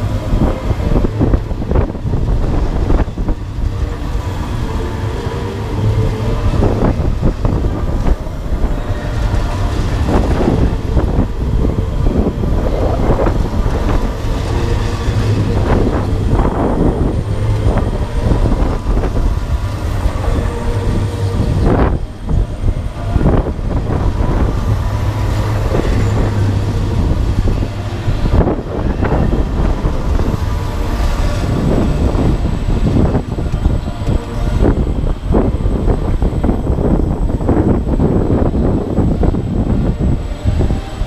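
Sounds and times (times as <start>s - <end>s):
ride mechanical rumble: 0.0s - 41.0s
wind buffeting microphone: 0.0s - 41.0s.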